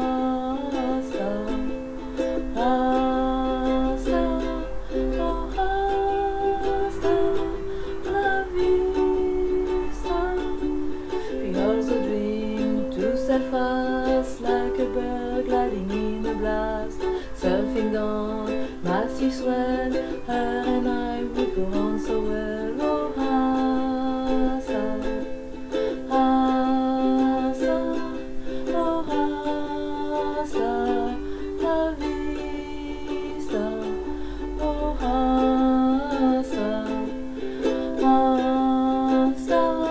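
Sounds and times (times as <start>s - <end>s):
ukulele strummed and plucked: 0.0s - 39.9s
woman singing: 0.0s - 39.9s.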